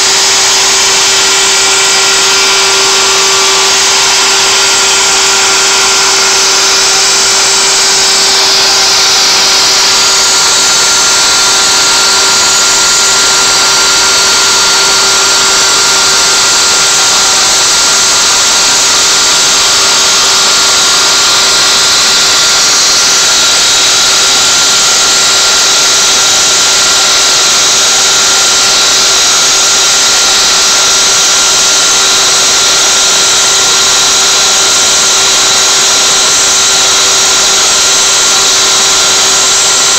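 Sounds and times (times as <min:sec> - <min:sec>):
hiss of router cutting wood: 0:00.0 - 0:39.9
router spindle tone: 0:00.0 - 0:39.9.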